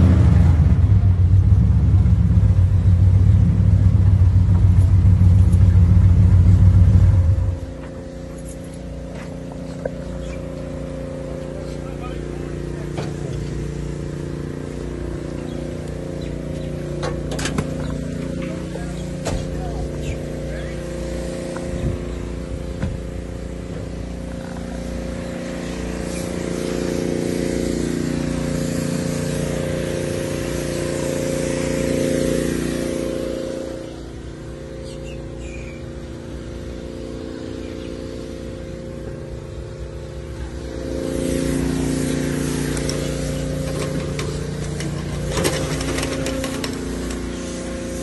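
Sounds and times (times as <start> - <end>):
engine idling with low hum: 0.0 - 48.0.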